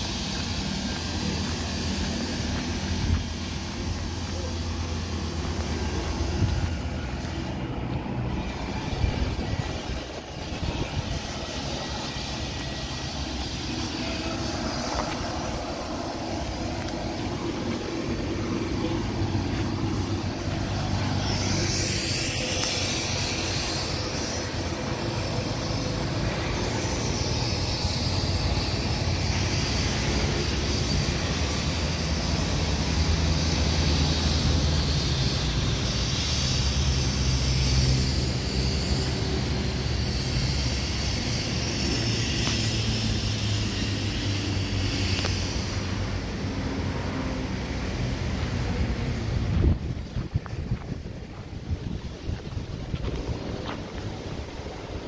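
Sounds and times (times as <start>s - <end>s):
hiss: 0.0s - 55.0s
road traffic rumble: 0.0s - 55.0s.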